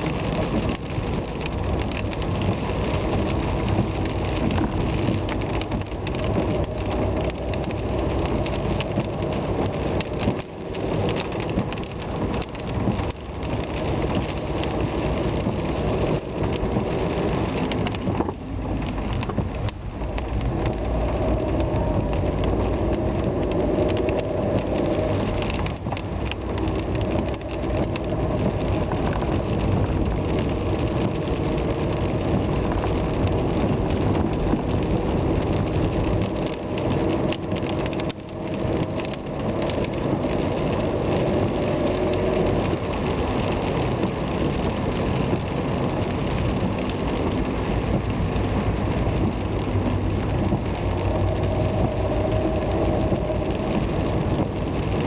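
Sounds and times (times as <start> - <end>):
rain and wet road noise: 0.0 - 55.0.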